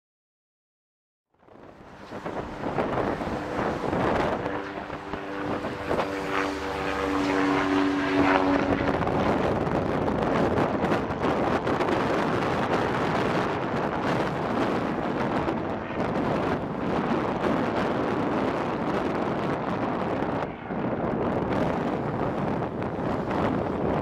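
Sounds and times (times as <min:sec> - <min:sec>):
propeller plane engines in flight: 0:01.3 - 0:24.0
wind noise on microphone: 0:01.4 - 0:24.0.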